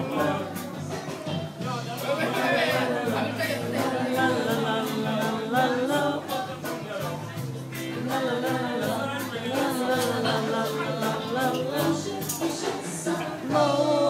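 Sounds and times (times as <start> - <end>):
person singing: 0.0 - 0.9, 2.2 - 14.0
pop song over loudspeakers: 0.0 - 14.0.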